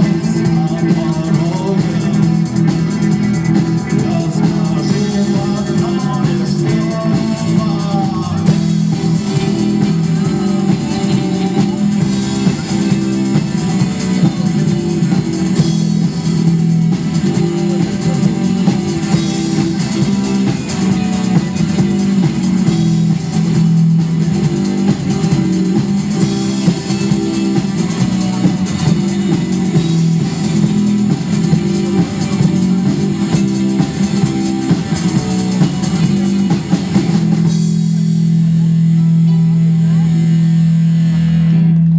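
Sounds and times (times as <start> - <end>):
drum kit: 0.0 - 39.1
bass guitar: 0.0 - 41.9
electric guitar: 0.0 - 41.9.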